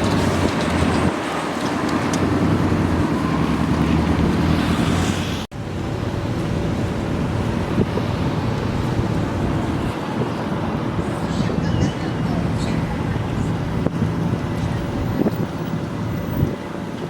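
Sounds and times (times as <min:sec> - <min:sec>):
engine hum: 0:00.0 - 0:17.0
rushing road noise: 0:00.0 - 0:17.0.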